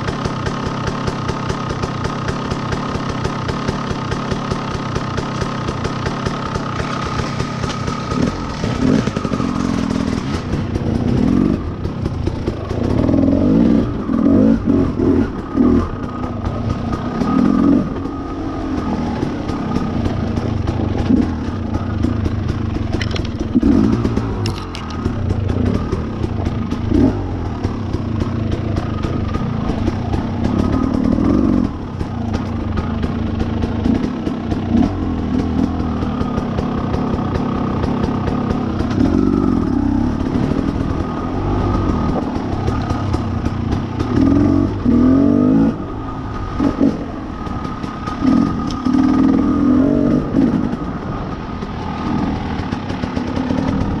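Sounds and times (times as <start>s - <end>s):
bike clatter and rattle: 0.0s - 14.2s, 15.0s - 45.1s
dirt bike engine revving: 0.0s - 54.0s.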